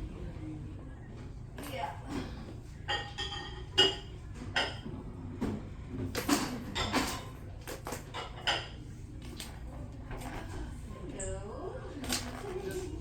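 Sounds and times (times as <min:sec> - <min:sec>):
dishes clinking and clattering: 0:01.5 - 0:13.0.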